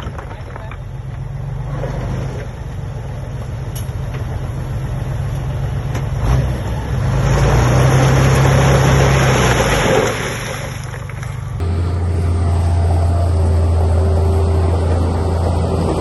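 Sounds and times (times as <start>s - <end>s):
heavy equipment diesel engine: 0.0s - 16.0s.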